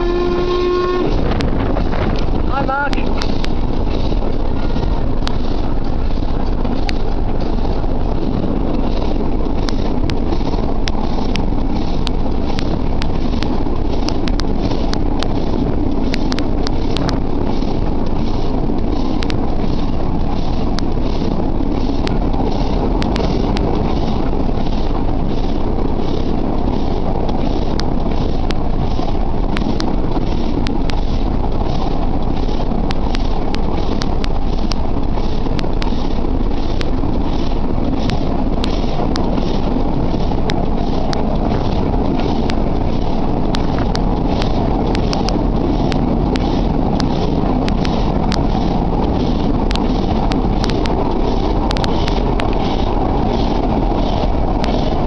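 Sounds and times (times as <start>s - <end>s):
sharp rail clicks: 0.0s - 55.0s
steam engine pulsing: 0.0s - 55.0s
train wheels rumbling on rails: 0.0s - 55.0s.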